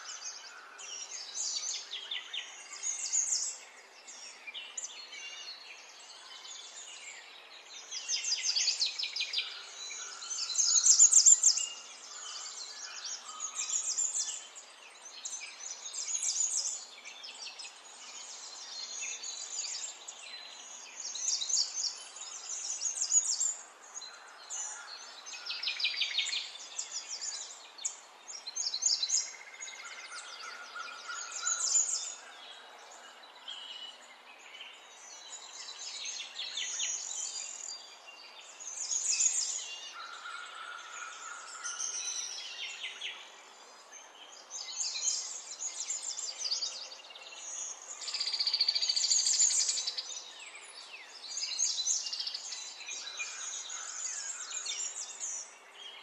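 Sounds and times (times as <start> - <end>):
faint steady hiss: 0.0 - 56.0
small birds chirping and singing: 0.0 - 56.0.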